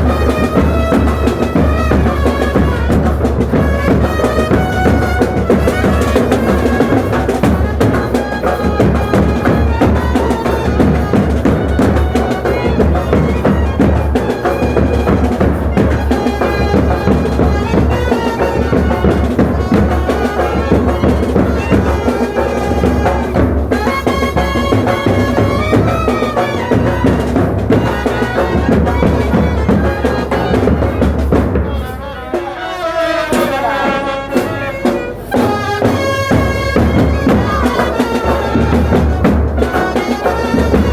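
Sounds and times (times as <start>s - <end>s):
loud drumming: 0.0s - 40.9s
wind instrument melody: 0.0s - 40.9s.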